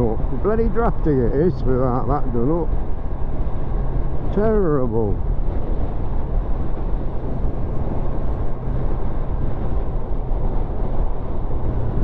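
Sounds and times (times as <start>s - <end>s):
road noise: 0.0s - 12.0s
wind noise: 0.0s - 12.0s.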